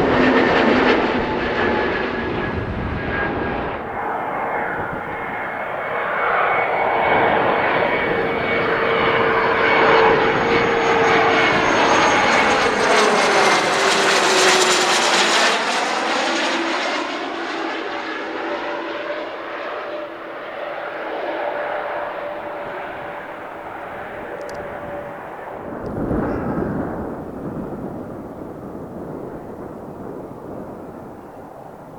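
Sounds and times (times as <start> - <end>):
jet engine whine passing: 0.0 - 31.9.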